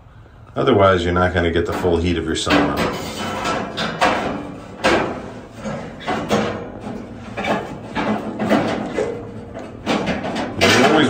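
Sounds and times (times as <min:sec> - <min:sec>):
knocks and scrapes on sheet metal: 0:01.6 - 0:11.0.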